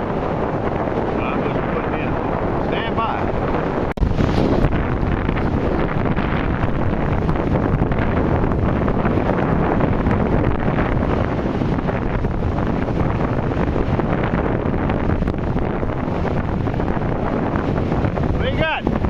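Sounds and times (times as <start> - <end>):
wind blowing across microphone: 0.0 - 19.0.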